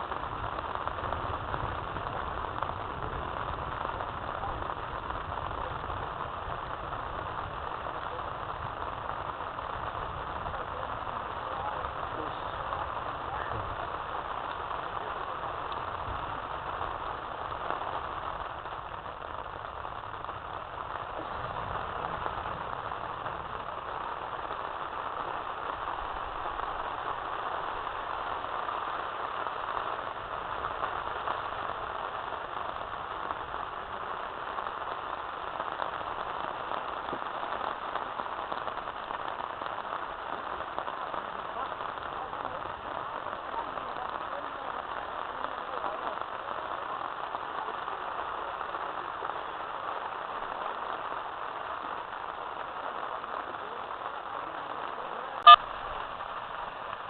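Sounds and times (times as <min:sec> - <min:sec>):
rainstorm rushing: 0:00.0 - 0:57.0.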